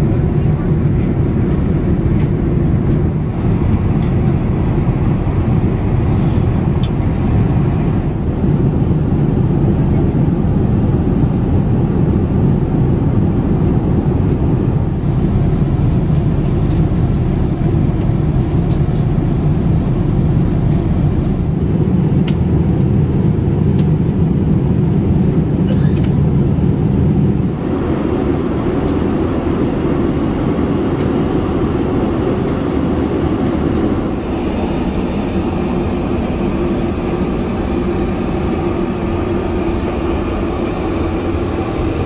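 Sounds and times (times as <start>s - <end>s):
airplane cabin roar in flight: 0.0s - 42.0s.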